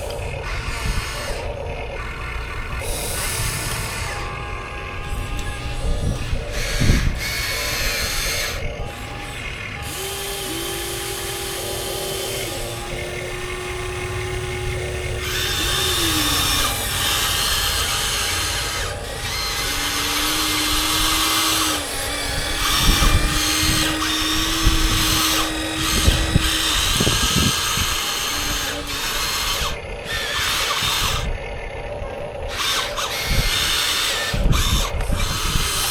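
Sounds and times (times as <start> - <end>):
electric motors whirring: 0.0 - 35.9.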